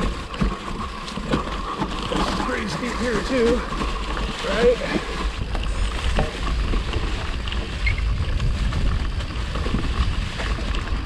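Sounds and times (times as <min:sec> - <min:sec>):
bike tyres rolling over dry leaves: 0:00.0 - 0:11.0.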